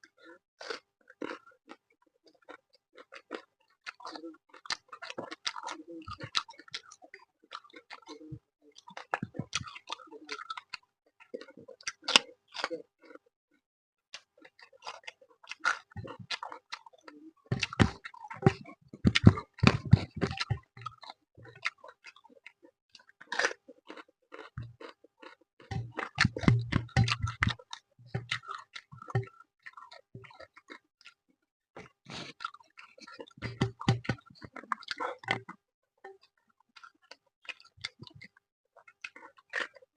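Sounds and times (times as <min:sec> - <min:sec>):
person chewing food: 0:00.1 - 0:13.2, 0:14.1 - 0:31.2, 0:31.8 - 0:39.9.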